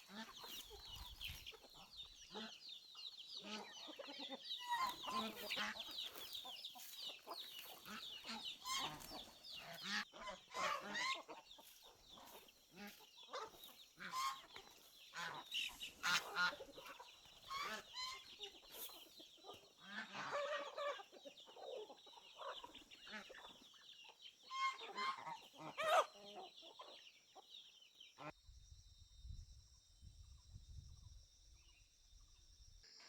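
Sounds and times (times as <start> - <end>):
chickens clucking: 0.0 - 28.3.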